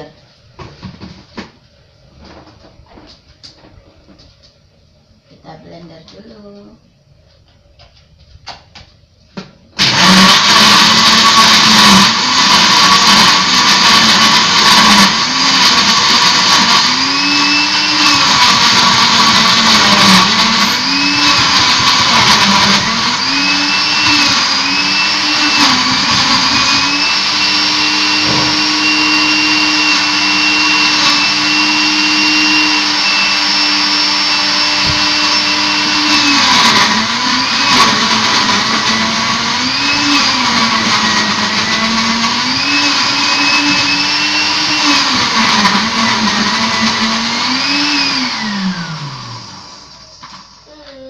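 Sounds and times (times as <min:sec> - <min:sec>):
blender motor running: 0:09.8 - 0:50.7.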